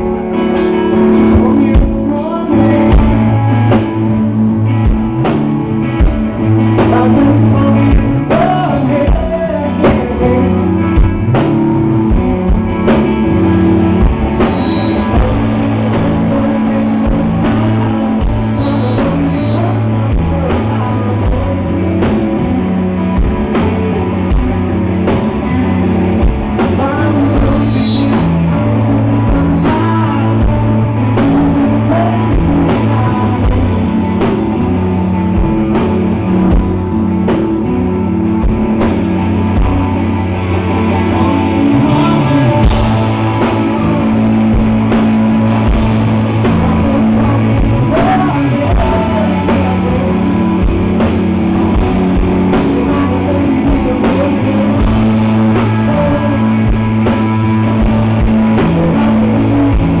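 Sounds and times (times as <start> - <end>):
lead vocal singing: 0.0 - 5.3, 5.9 - 60.0
rock band playing live: 0.0 - 60.0.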